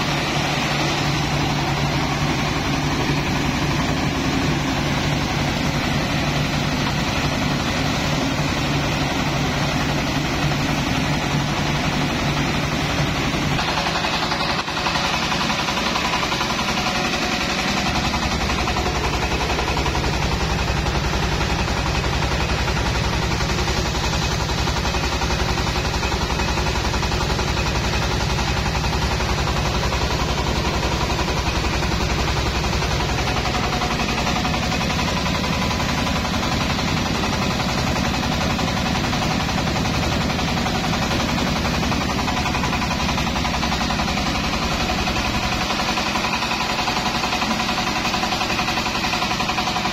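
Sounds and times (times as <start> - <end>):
rice mill running: 0.0 - 49.9.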